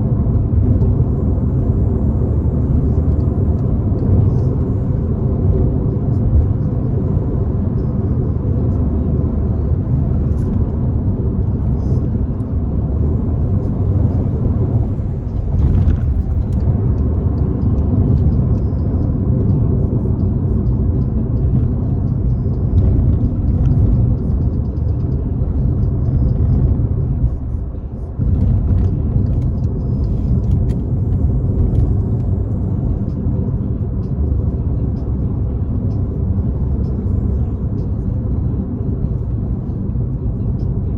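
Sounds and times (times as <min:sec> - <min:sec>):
car engine low rumble: 0:00.0 - 0:40.9
road noise: 0:00.0 - 0:40.9.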